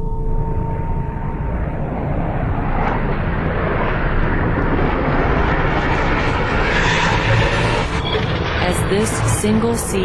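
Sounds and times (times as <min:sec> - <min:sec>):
jet engine rushing: 0:00.6 - 0:10.0.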